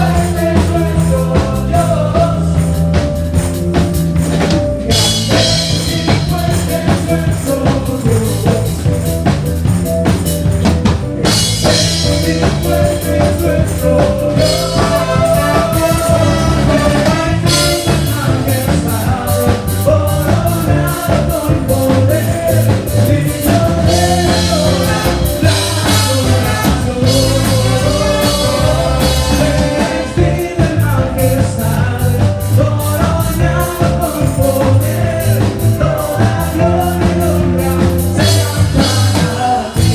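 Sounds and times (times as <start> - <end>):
drum kit beat: 0.0 - 39.9
rock band playing: 0.0 - 39.9.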